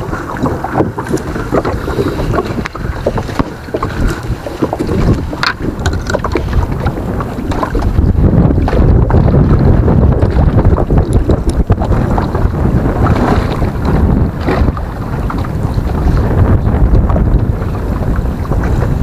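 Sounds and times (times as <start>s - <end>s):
water lapping against hull: 0.0s - 19.0s
wind buffeting microphone: 0.0s - 19.0s.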